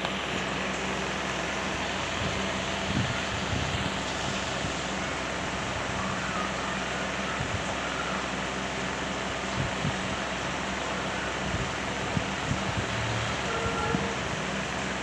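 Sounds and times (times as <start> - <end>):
electric fan whooshing hiss: 0.0 - 15.0.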